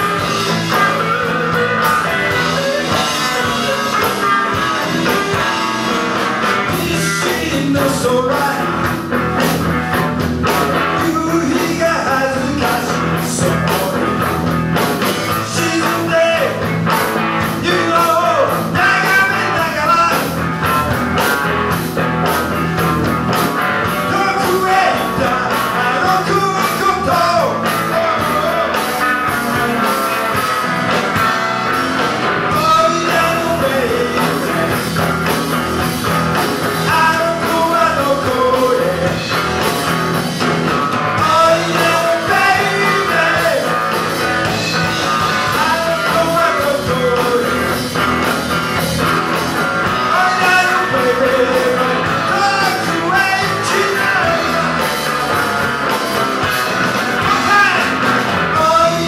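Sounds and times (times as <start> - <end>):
man singing: 0.0 - 20.8, 23.8 - 29.9, 32.4 - 48.6, 49.3 - 56.0, 56.7 - 59.0
drums: 0.0 - 59.0
electric guitar: 0.0 - 59.0.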